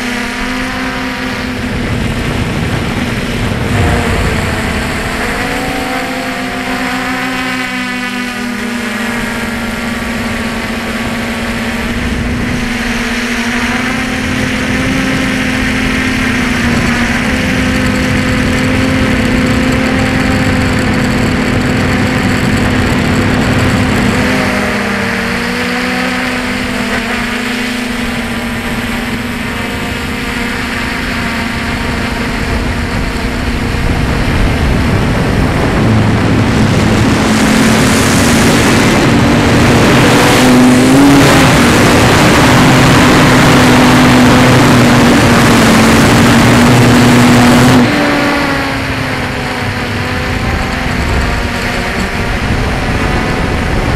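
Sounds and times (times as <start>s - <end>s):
electric motor and propeller hum: 0.0s - 53.9s.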